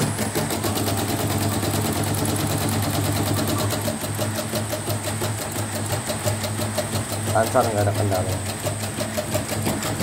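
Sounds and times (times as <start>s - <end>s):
motor hum: 0.0s - 10.0s.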